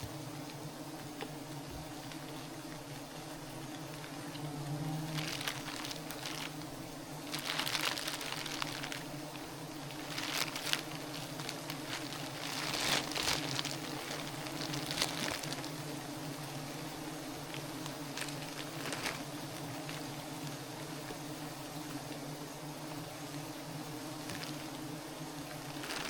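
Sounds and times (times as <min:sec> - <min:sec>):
rustling: 0:00.0 - 0:22.3, 0:22.9 - 0:26.0
bees buzzing: 0:00.0 - 0:26.0.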